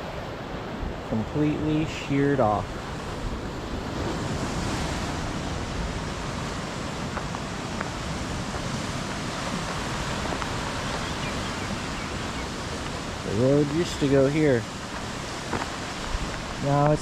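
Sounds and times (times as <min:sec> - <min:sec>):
ocean surf: 0:00.0 - 0:17.0
wind: 0:00.0 - 0:17.0.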